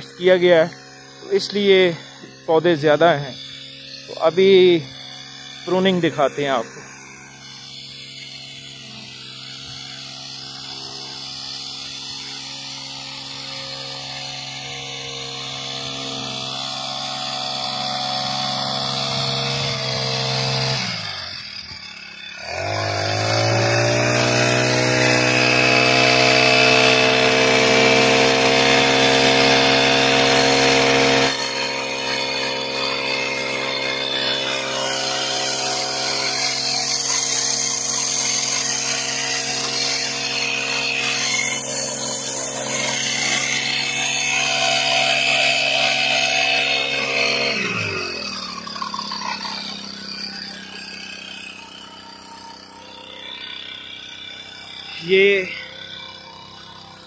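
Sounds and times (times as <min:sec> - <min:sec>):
brush cutter running: 0:00.0 - 0:57.0.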